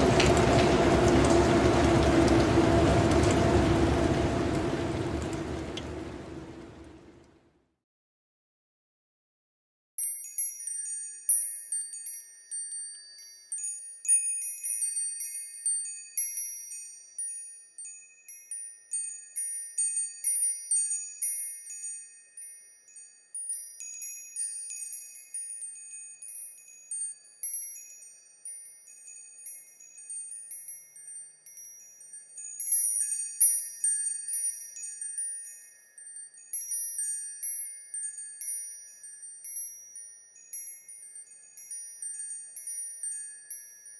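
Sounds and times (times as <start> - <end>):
wind chimes ringing: 0.0 - 1.8, 10.0 - 43.9.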